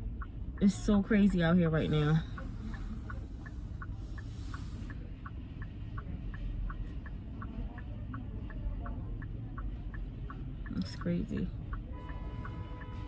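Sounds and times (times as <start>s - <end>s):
low rumble inside car: 0.0s - 13.0s
turn signal ticking: 0.0s - 13.0s.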